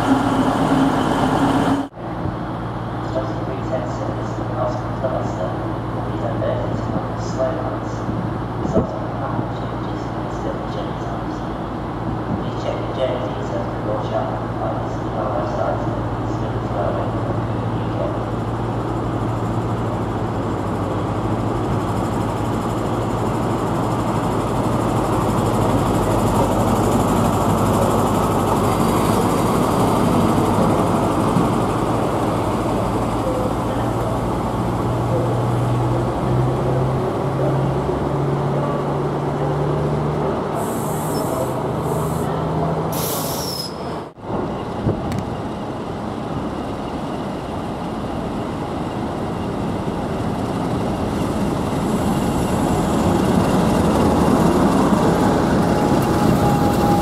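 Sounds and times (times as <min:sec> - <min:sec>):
diesel train engine hum: 0:00.0 - 0:57.0
train rumbling on track: 0:00.0 - 0:57.0.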